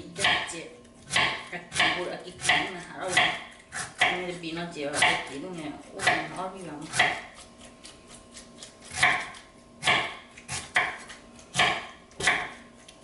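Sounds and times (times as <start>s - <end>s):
knife chopping on wooden board: 0.2s - 4.2s, 4.9s - 5.3s, 5.9s - 12.6s.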